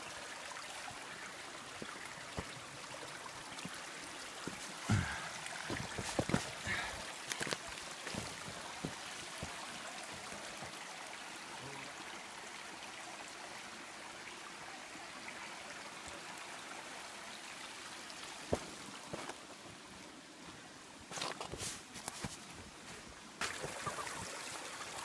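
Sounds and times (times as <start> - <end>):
creek rushing over rocks: 0.0 - 25.0.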